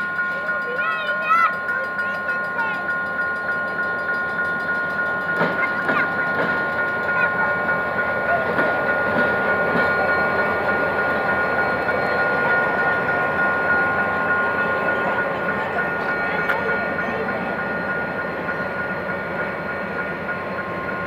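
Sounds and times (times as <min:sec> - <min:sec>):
diesel locomotive rumbling: 0:00.0 - 0:21.0
two-tone crossing alarm: 0:00.0 - 0:21.0
wheels clattering on rails: 0:00.0 - 0:21.0.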